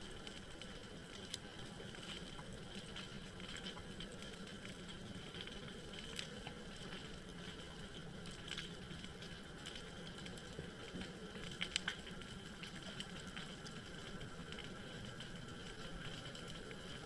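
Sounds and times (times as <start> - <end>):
sharp clicks and crackles: 0.0 - 17.0.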